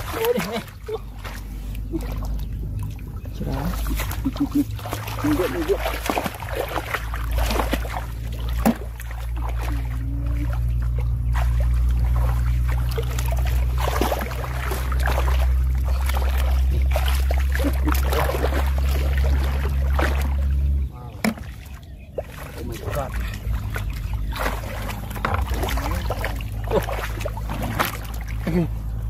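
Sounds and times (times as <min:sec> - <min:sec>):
small splashes and clicks: 0:00.0 - 0:28.7
hands splashing in muddy water: 0:00.0 - 0:29.0
steady low rumble: 0:00.0 - 0:29.0.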